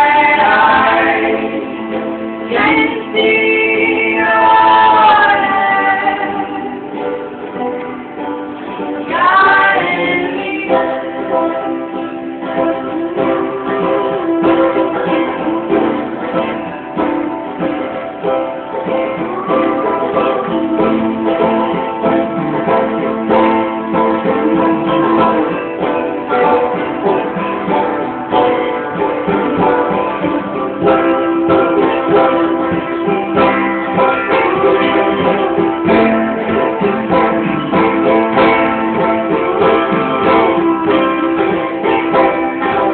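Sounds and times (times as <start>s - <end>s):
live acoustic band playing: 0.0s - 42.9s
plucked string instruments: 0.0s - 42.9s.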